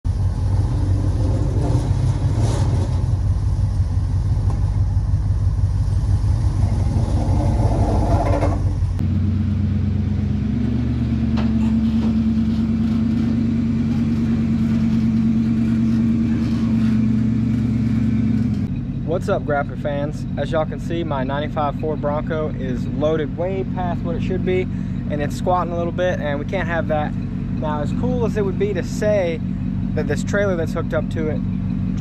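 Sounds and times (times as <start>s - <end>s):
engine running steadily: 0.0s - 32.0s
pickup engine rumbling: 0.0s - 32.0s.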